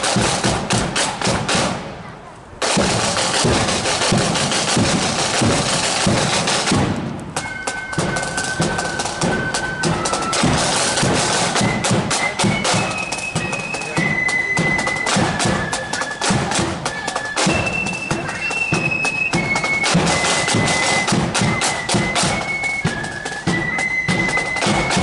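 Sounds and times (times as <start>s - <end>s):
marching drums beating: 0.0s - 25.0s
flutes playing a tune: 2.9s - 25.0s.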